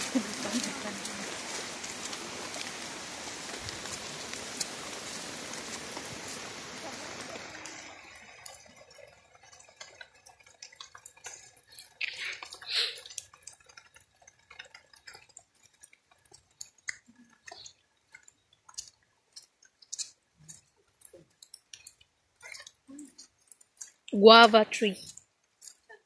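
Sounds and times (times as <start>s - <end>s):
wet clicks and drips: 0.0s - 26.0s.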